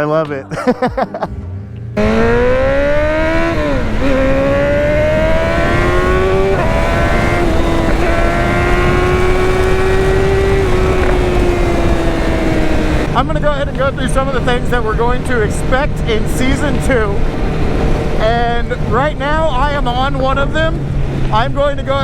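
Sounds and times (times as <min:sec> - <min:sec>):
wind rushing: 0:01.9 - 0:22.0
motorcycle engine at high revs: 0:02.0 - 0:22.0.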